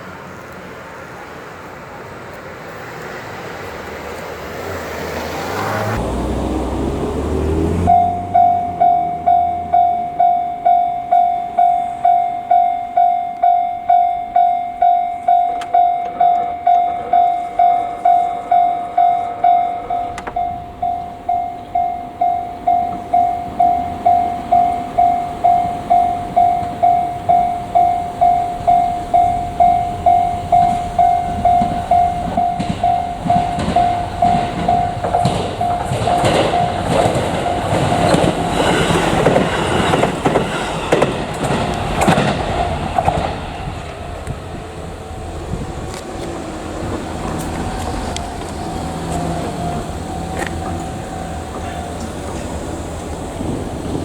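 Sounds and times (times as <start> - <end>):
rush of vehicle noise: 0.0 - 54.0
level crossing alarm bell: 7.8 - 53.6.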